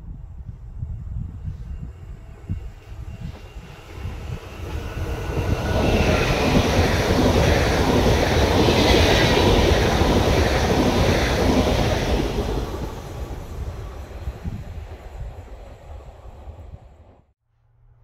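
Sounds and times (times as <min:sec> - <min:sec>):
train passing on rails: 0:00.1 - 0:17.4.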